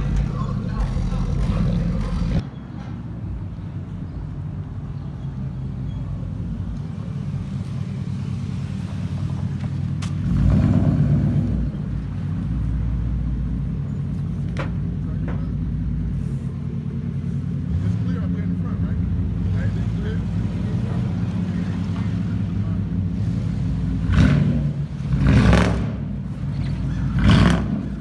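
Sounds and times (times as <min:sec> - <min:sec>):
car engine rolling by: 0:00.0 - 0:02.4, 0:07.1 - 0:28.0.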